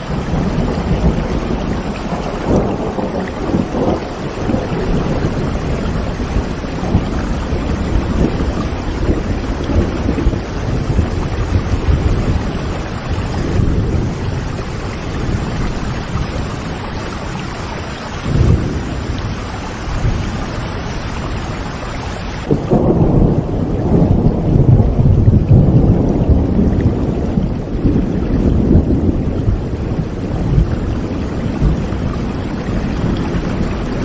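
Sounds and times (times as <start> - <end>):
rolling thunder: 0.0 - 34.0
steady rain: 0.0 - 34.0.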